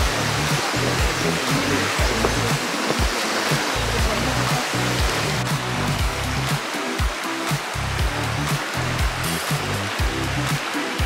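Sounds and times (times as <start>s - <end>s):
background music with bass: 0.0s - 11.0s
fast-flowing river rushing: 0.0s - 11.0s.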